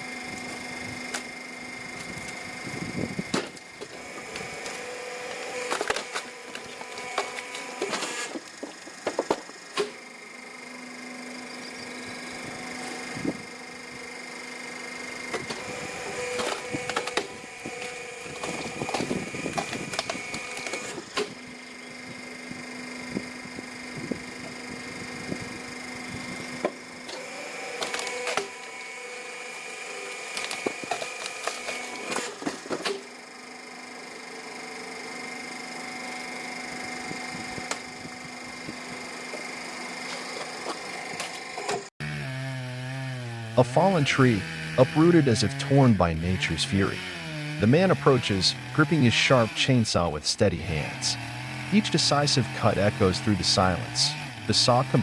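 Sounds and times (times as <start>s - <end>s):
machine whine: 0.0s - 41.9s, 43.5s - 55.0s.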